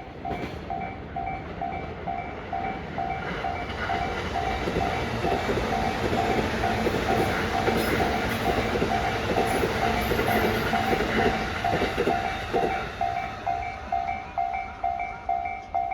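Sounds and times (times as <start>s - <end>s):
freight train rumbling past: 0.0s - 15.9s
level-crossing warning bell: 0.0s - 15.9s.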